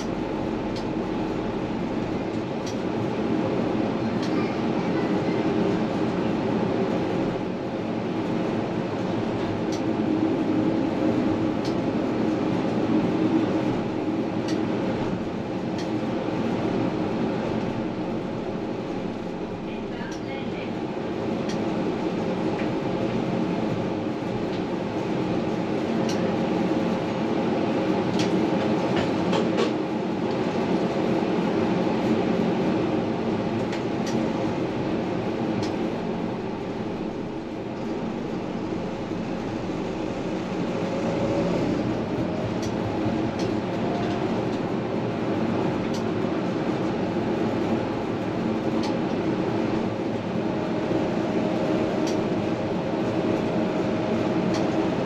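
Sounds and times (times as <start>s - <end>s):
tram wheels rumbling on track: 0.0s - 55.0s.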